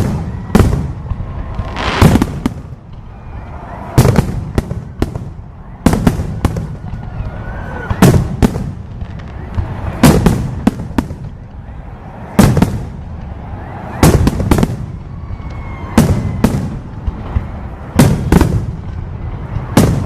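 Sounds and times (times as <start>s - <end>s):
fireworks bangs: 0.0s - 20.0s
low rumble after fireworks: 0.0s - 20.0s.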